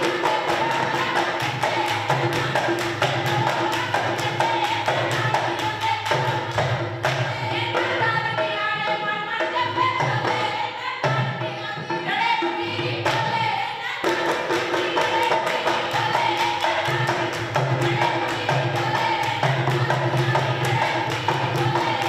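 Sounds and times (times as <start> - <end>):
steady percussion beat: 0.0 - 22.0
women singing folk verses: 0.0 - 22.0.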